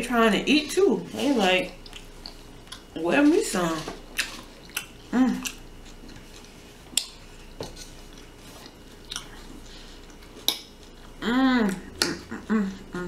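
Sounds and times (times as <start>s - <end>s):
close chewing and mouth sounds: 0.5s - 13.0s.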